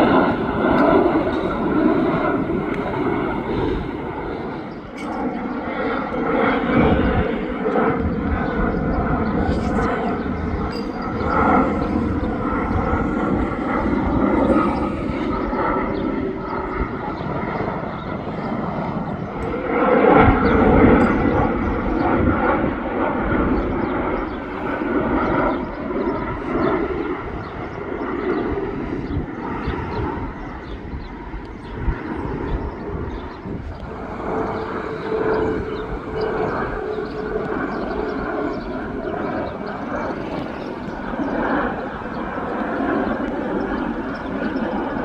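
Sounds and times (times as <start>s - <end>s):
jet engines rushing and whining: 0.0s - 45.0s.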